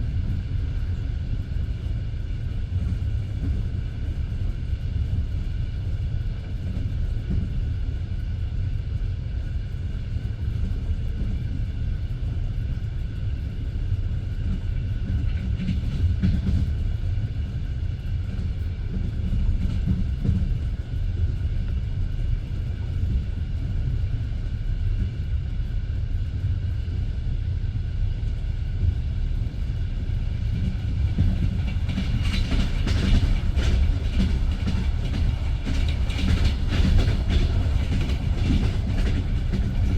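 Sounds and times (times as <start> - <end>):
wheels clickety-clack over rail joints: 0.0 - 27.3, 28.1 - 39.9
train wheels rumbling on rails: 0.0 - 39.9.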